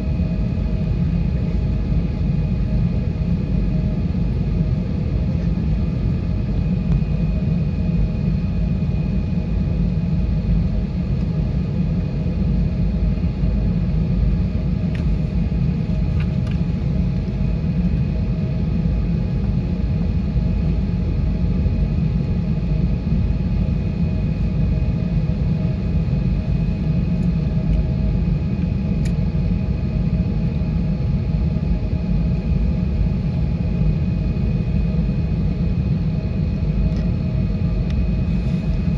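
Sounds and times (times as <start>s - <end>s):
aircraft cabin engine rumble: 0.0s - 38.9s
jet engine whine: 0.0s - 38.9s.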